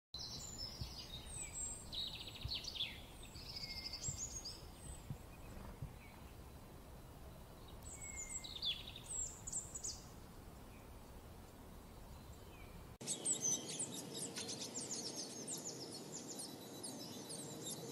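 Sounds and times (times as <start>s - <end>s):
faint background hiss: 0.2s - 17.9s
songbirds chirping and trilling: 0.2s - 17.9s.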